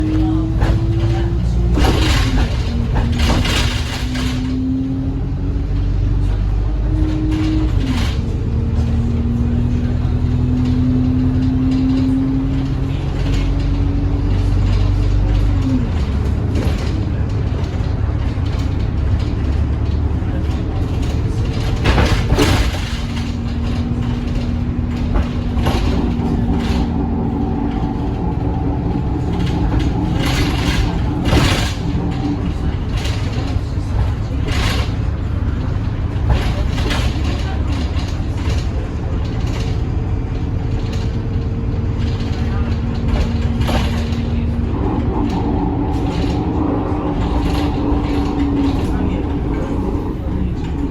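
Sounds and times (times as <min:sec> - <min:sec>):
bus engine rumble and whine: 0:00.0 - 0:50.9.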